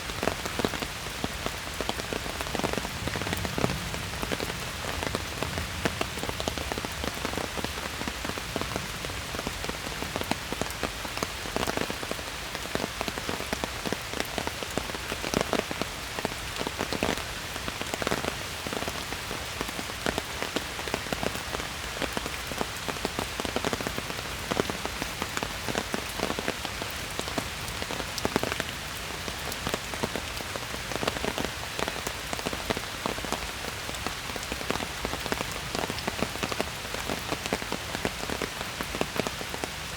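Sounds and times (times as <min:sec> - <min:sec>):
rain falling in a forest: 0:00.0 - 0:39.9
raindrops pattering: 0:00.0 - 0:39.9.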